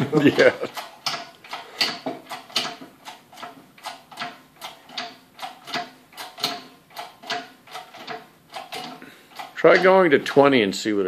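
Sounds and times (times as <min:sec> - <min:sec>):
hydraulic press pump clicking: 0:00.6 - 0:10.5.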